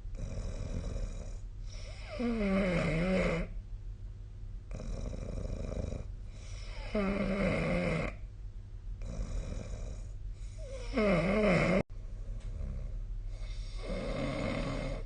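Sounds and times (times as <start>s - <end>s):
person snoring: 0.1s - 3.5s, 4.7s - 8.2s, 9.0s - 11.8s, 12.4s - 15.0s.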